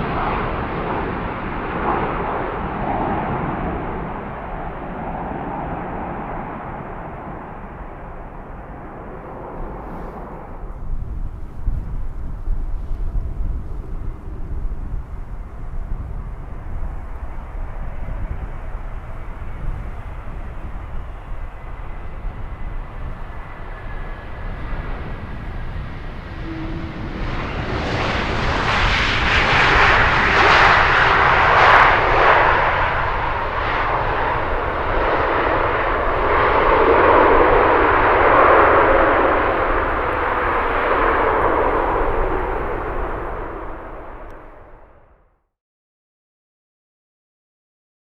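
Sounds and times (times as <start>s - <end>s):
jet airliner engines roaring: 0.0s - 45.1s.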